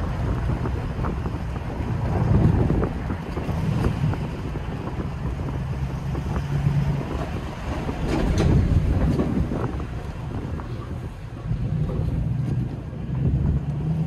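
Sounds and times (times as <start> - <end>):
car engine burbling: 0.0 - 14.0
wind buffeting microphone: 0.0 - 14.0.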